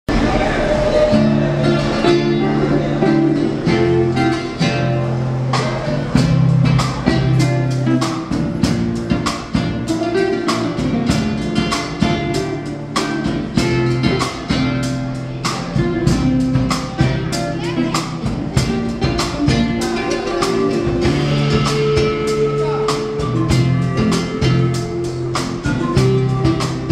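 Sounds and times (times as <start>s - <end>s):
acoustic guitar: 0.1s - 26.9s
drum kit: 0.1s - 26.9s
electric bass notes: 0.1s - 26.9s.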